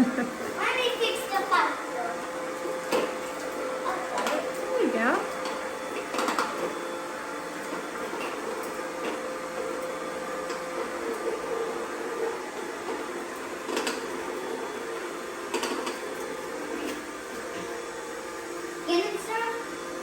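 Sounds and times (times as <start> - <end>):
robot vacuum motor whir: 0.0 - 20.0.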